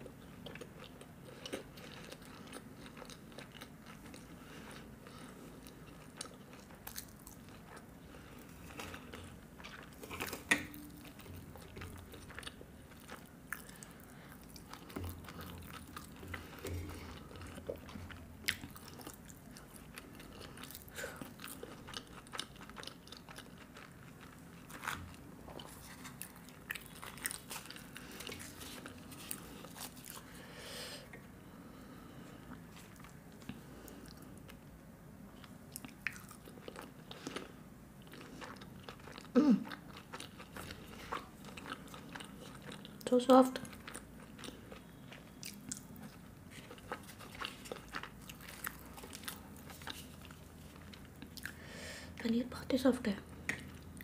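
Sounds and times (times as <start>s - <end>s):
person chewing: 0.1s - 31.3s, 35.4s - 51.6s, 53.3s - 54.0s.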